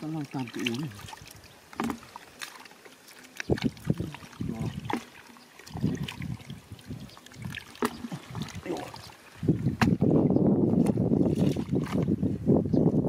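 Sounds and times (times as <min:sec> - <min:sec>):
hands sloshing in muddy water: 0:00.0 - 0:12.2.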